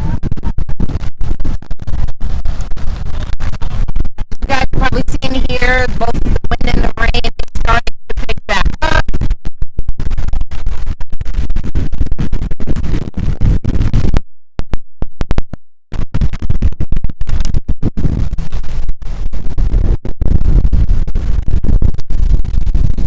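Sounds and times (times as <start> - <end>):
wind buffeting microphone: 0.0 - 14.2, 16.0 - 23.0.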